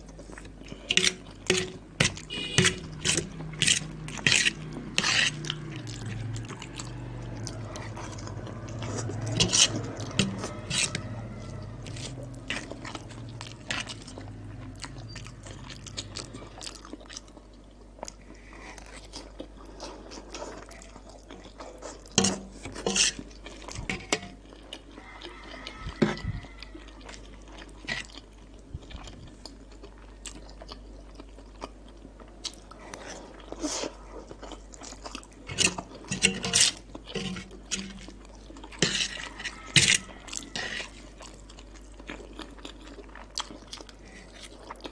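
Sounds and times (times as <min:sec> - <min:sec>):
person chewing crunchy snacks: 0:00.0 - 0:44.9.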